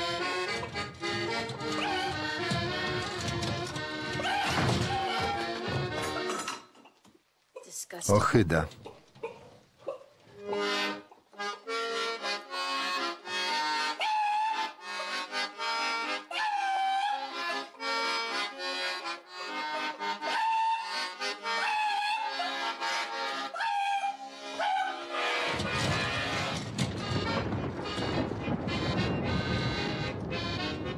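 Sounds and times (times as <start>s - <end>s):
accordion melody: 0.0s - 6.7s, 10.2s - 30.9s.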